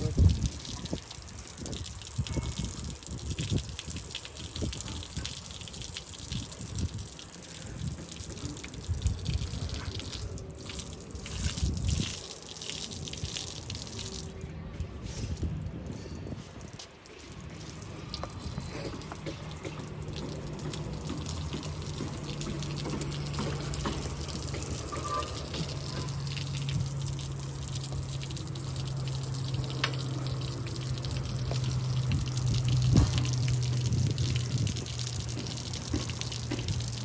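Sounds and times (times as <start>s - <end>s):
water running: 0.0s - 37.0s.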